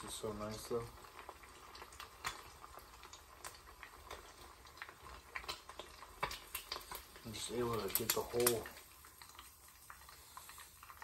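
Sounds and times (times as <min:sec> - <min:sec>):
eggs sizzling in fat: 0:00.0 - 0:11.0.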